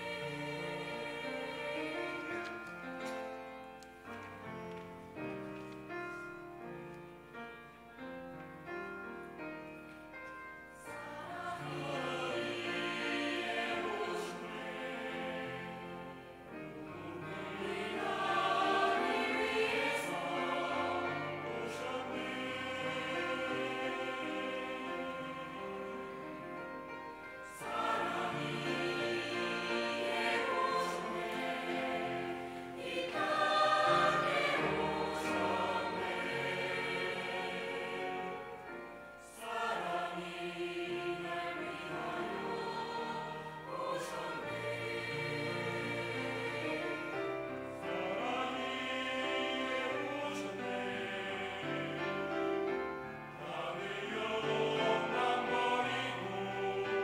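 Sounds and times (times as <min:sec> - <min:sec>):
choir singing in parts: 0:00.0 - 0:04.5, 0:10.8 - 0:57.0
piano accompaniment: 0:00.0 - 0:57.0.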